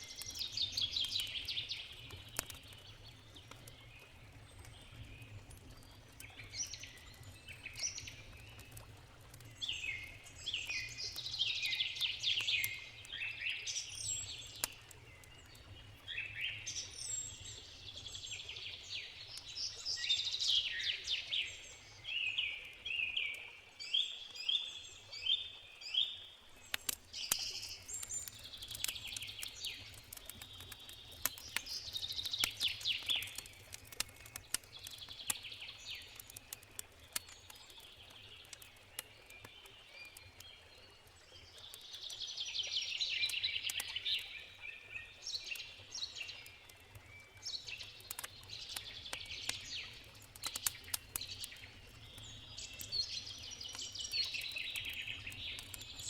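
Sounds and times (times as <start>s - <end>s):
campfire crackling: 0.0s - 23.5s, 24.3s - 56.0s
songbirds chirping: 0.0s - 56.0s.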